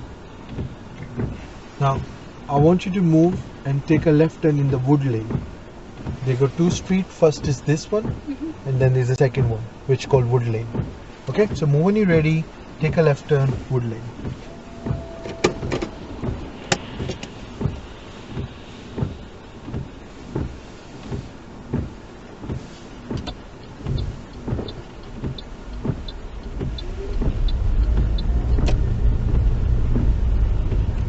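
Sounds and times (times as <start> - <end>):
car engine and road noise: 0.0 - 31.0
car turn indicator ticking: 0.4 - 8.3, 9.1 - 9.7, 10.3 - 31.0.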